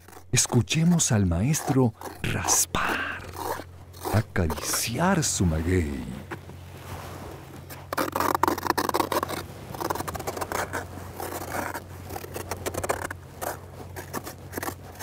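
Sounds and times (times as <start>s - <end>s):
scraper rasping plant tissue: 0.0s - 6.2s, 7.7s - 15.0s.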